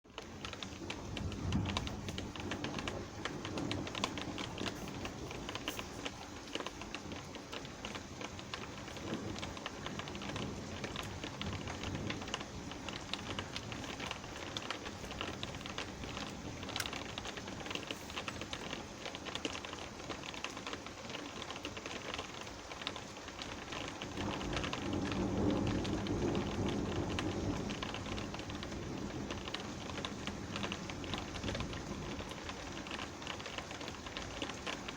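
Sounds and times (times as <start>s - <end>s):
rain drops ticking: 0.0s - 34.9s
distant thunder rumbles: 0.3s - 20.2s, 23.5s - 34.9s.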